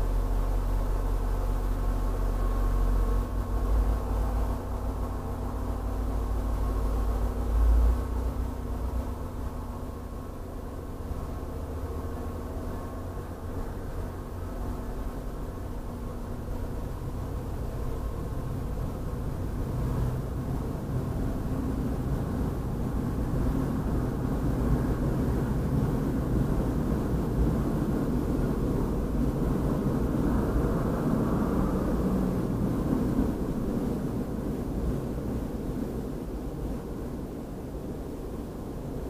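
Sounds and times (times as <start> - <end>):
muffled diesel locomotive rumble: 0.0 - 39.0.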